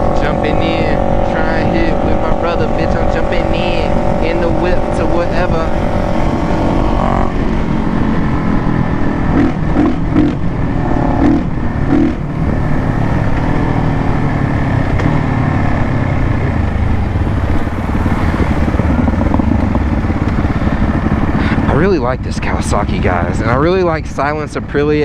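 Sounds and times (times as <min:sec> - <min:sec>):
motorcycle engine running: 0:00.0 - 0:25.0
wind rumble on microphone: 0:00.0 - 0:25.0.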